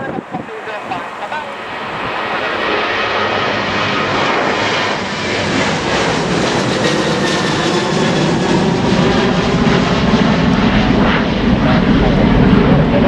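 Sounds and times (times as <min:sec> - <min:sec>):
airliner engines roaring: 0:00.0 - 0:13.0
faint engine whine: 0:00.0 - 0:13.0.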